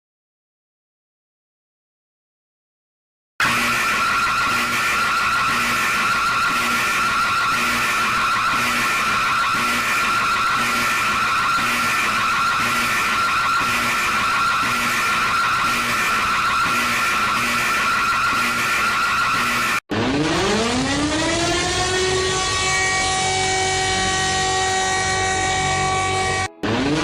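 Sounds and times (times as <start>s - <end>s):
harsh emergency alarm tone: 3.4s - 27.0s
low pulse: 3.5s - 27.0s.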